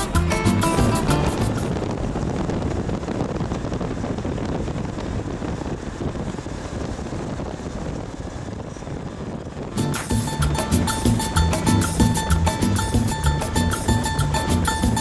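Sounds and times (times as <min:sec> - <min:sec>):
bus road noise: 0:00.0 - 0:15.0
wind rushing over microphone: 0:00.0 - 0:15.0.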